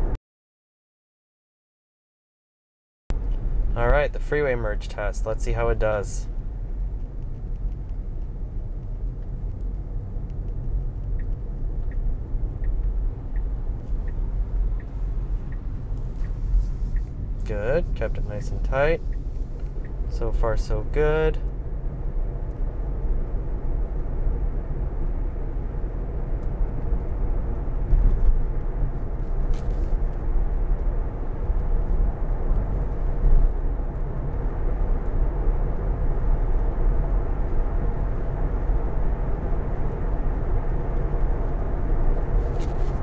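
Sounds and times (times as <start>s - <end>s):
tyre and wind road noise in car: 3.1s - 43.0s.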